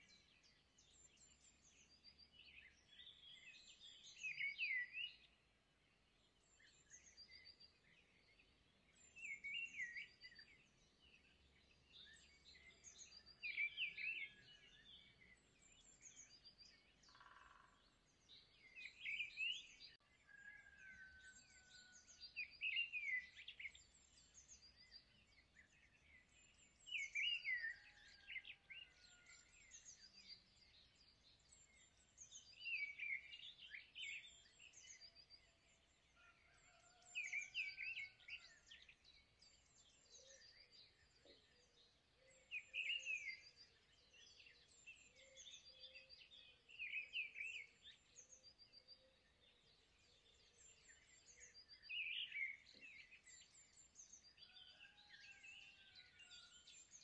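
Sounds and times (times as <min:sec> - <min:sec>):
faint birdsong: 0:00.0 - 0:57.0.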